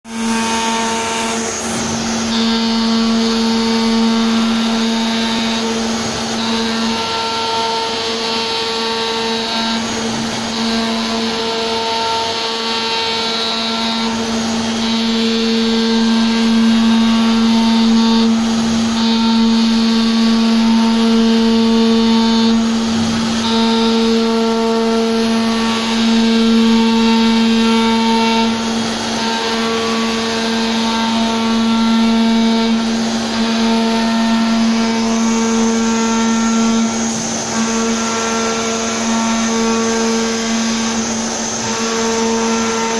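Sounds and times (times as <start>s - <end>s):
router spindle whine: 0.1s - 42.9s.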